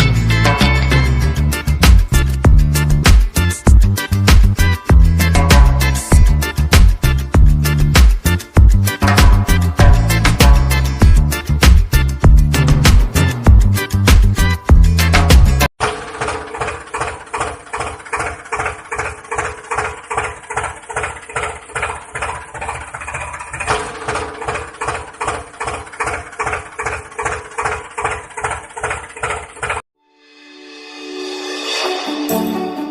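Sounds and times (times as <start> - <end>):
tractor engine idling: 0.0 - 29.8.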